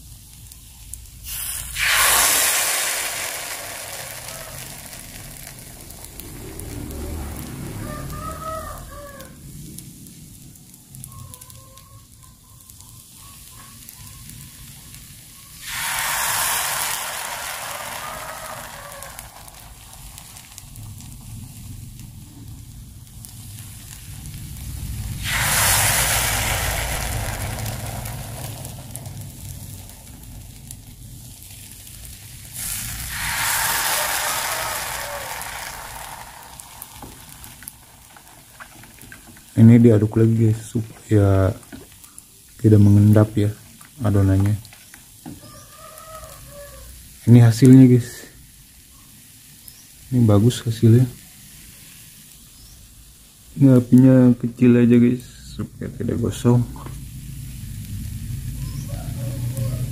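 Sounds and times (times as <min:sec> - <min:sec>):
batter sizzling in hot mold: 0:00.0 - 0:59.9.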